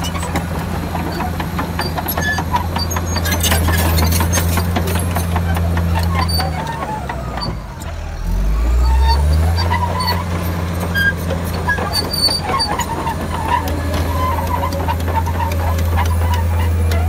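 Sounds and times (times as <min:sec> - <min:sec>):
bulldozer diesel engine droning: 0:00.0 - 0:17.0
steel tracks squeaking and clinking: 0:00.0 - 0:17.0.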